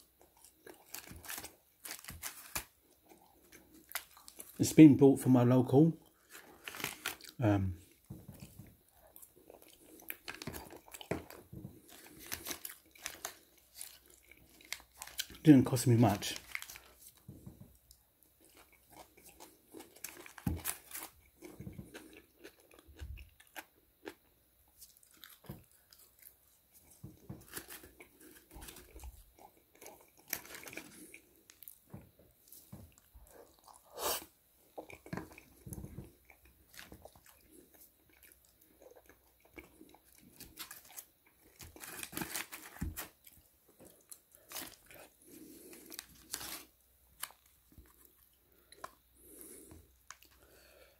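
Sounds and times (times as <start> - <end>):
chewing and crunching fries: 0.0 - 4.8, 5.8 - 50.8.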